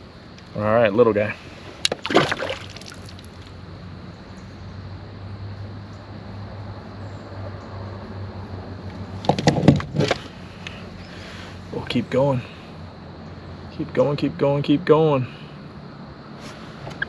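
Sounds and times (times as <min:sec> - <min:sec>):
faint background rush: 0:00.0 - 0:17.0.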